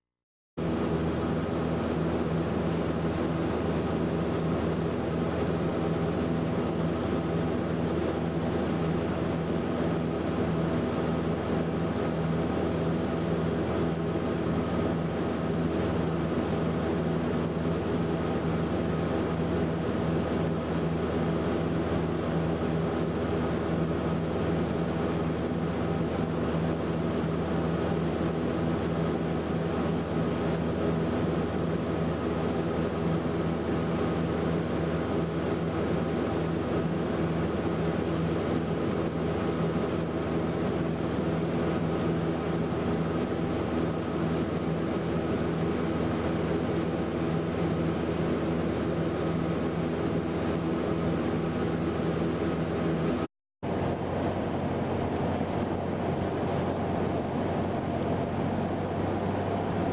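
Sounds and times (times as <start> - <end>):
light aircraft engine drone: 0.6 - 59.9.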